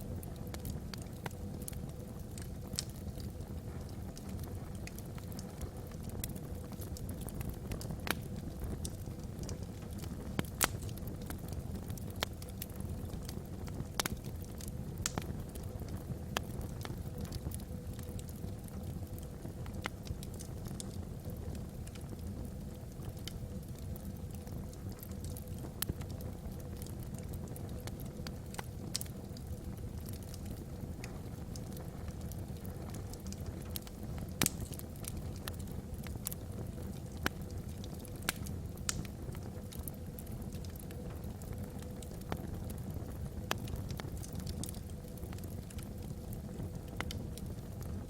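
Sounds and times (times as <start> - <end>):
fire flames rumbling: 0.0 - 48.0
logs crackling and popping: 0.0 - 48.0.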